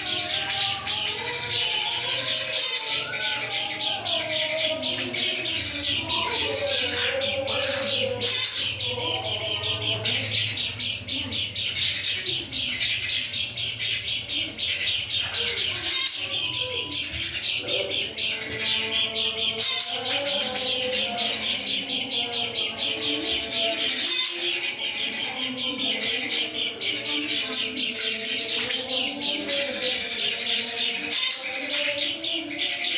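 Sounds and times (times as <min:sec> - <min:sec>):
songbirds chirping and twittering: 0:00.0 - 0:32.9.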